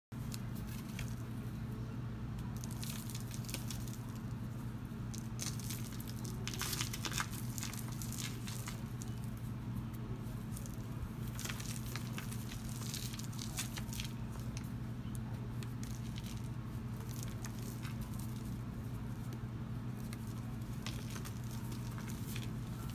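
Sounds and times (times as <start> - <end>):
low hum: 0.2 - 22.9
powder balls crunching by hand: 0.2 - 22.9.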